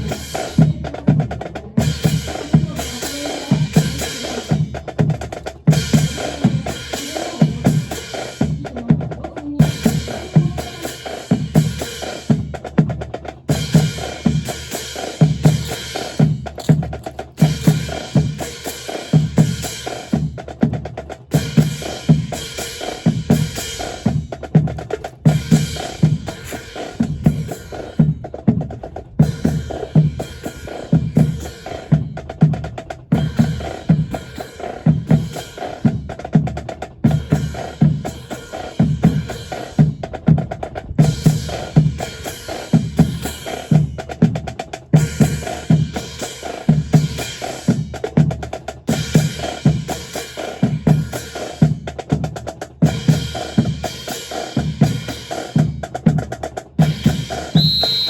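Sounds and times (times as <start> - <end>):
marching drum cadence: 0.0 - 58.0.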